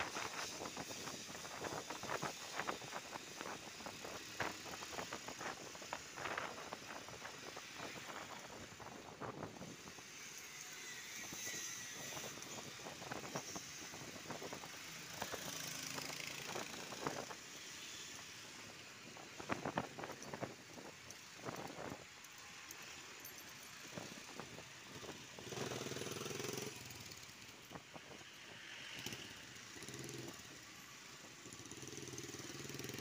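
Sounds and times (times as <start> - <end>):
wind and road noise on motorcycle: 0.0 - 33.0.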